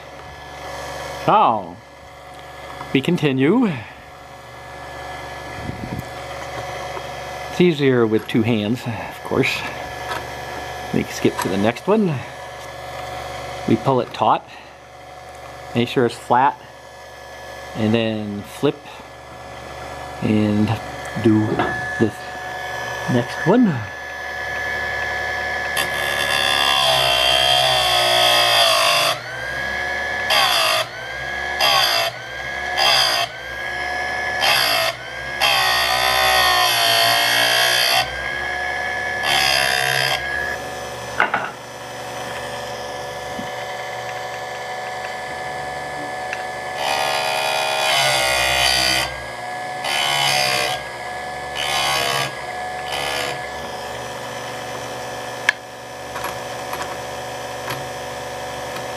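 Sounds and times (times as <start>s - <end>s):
sharpener motor whining: 0.0s - 58.9s.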